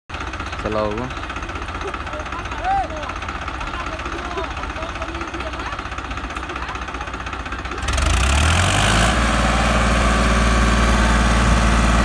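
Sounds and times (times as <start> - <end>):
tractor engine running: 0.1 - 12.0.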